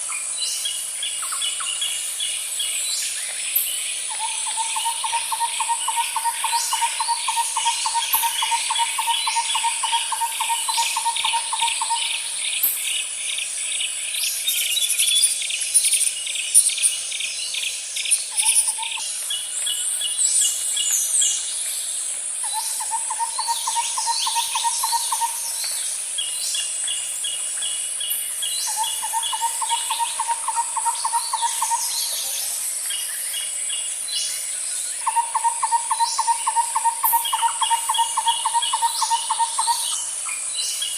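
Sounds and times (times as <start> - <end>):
high insect drone: 0.0 - 40.9
pulsed insect trills: 0.0 - 40.9
bird chirps: 3.6 - 13.5, 14.4 - 21.4, 22.4 - 40.9.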